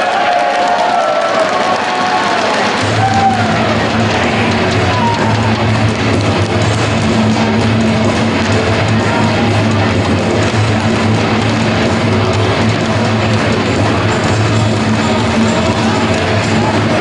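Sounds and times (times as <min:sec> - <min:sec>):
heavy metal music: 0:02.6 - 0:17.0.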